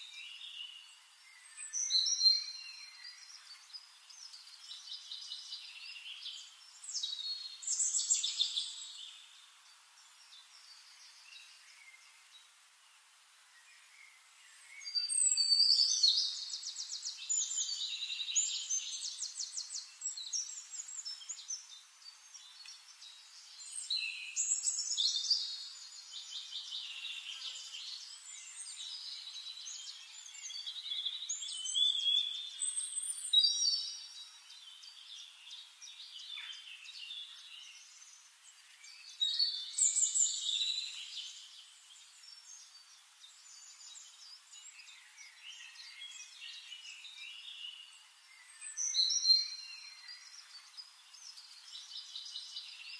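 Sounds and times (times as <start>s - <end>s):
birds chirping and trilling: 0.0s - 52.9s
quiet bird twittering: 0.0s - 52.9s.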